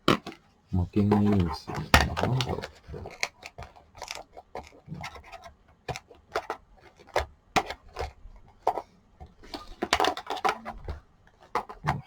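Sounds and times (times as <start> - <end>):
hard plastic parts knocking: 1.0 - 12.0.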